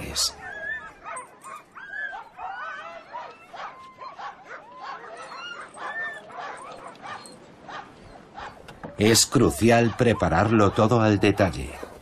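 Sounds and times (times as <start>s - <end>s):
sled dogs whining and yelping: 0.0s - 12.0s.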